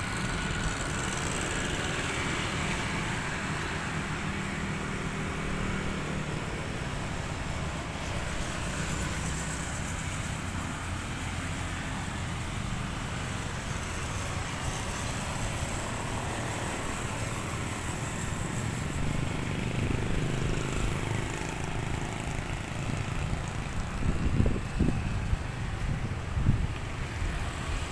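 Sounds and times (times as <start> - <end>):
street traffic noise: 0.0 - 27.9.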